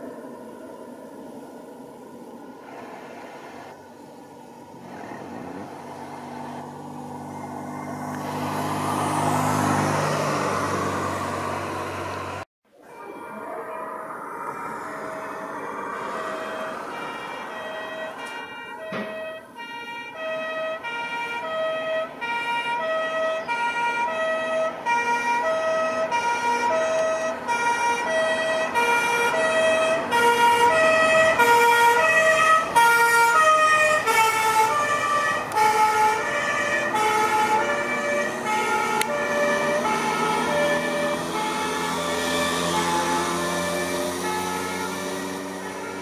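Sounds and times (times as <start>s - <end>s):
two-tone emergency siren: 6.2s - 46.0s.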